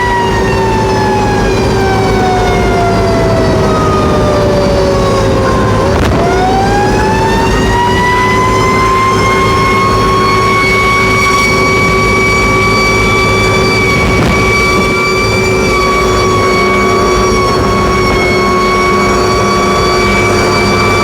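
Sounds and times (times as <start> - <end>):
fire truck siren wailing: 0.0 - 21.0
truck engine rumble: 0.0 - 21.0.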